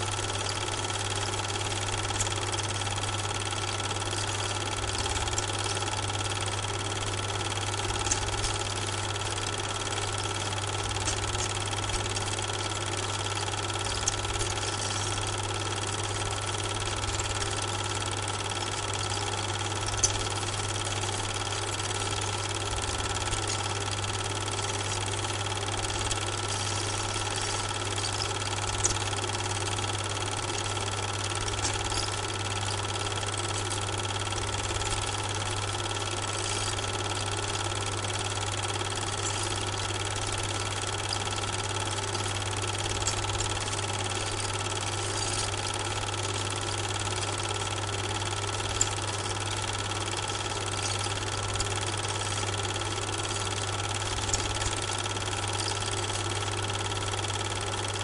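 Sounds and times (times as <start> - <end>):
machine-like hum: 0.0 - 58.0.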